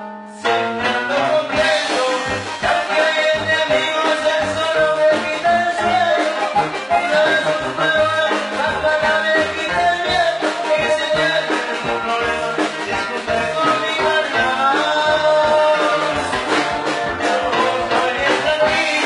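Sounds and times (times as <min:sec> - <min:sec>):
latin band music: 0:00.0 - 0:19.0.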